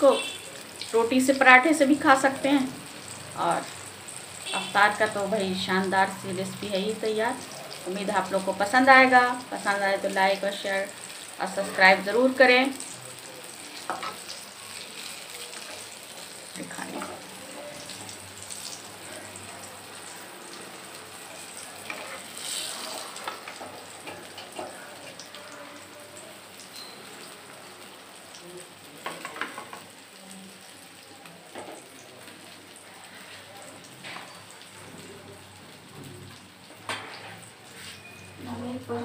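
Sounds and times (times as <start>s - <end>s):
vegetables sizzling in oil: 0.0s - 39.0s.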